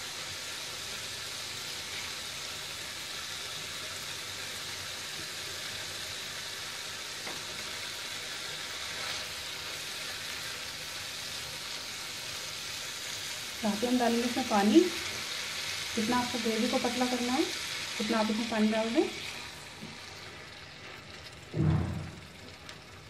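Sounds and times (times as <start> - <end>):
gravy sizzling in a frying pan: 0.0 - 23.0.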